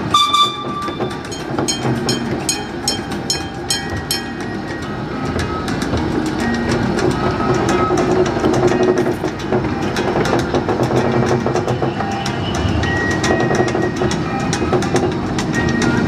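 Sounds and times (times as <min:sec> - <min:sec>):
clicking of train wheels: 0:00.0 - 0:16.0
miniature train rumbling and rattling: 0:00.0 - 0:16.0.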